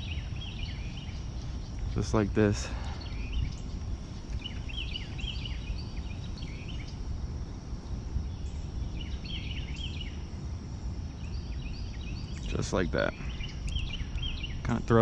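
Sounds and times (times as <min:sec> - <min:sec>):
bird chirping: 0:00.0 - 0:07.2, 0:07.8 - 0:10.4, 0:11.0 - 0:15.0
low outdoor rumble: 0:00.0 - 0:15.0.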